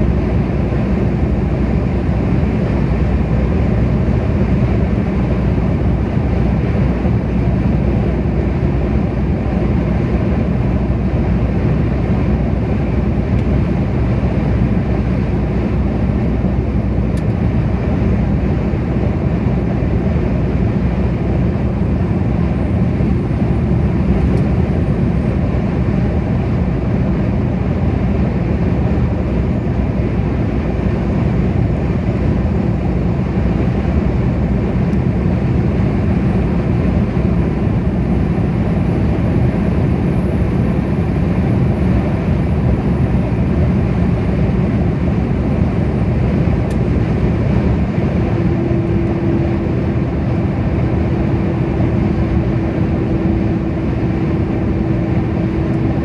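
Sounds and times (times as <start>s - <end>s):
vehicle road noise at speed: 0.0s - 56.0s.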